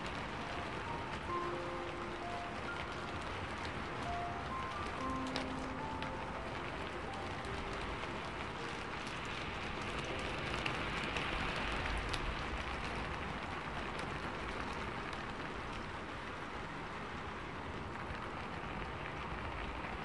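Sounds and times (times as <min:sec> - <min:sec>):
milk sizzling in a pan: 0:00.0 - 0:17.2.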